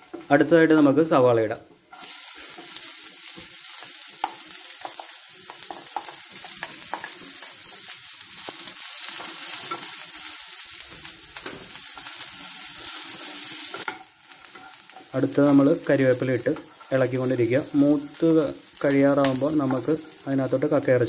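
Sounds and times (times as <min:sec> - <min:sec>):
onions sizzling in a frying pan: 0:00.0 - 0:21.0.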